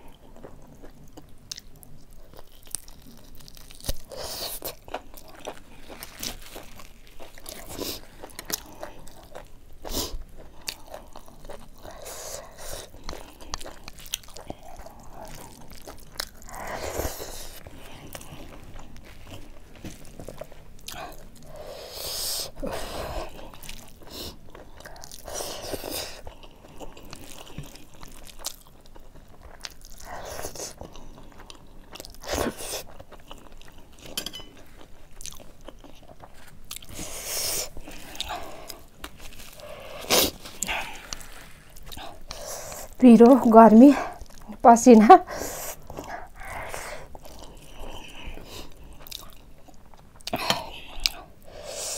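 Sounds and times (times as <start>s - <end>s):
close chewing with mouth clicks: 0.0s - 51.9s.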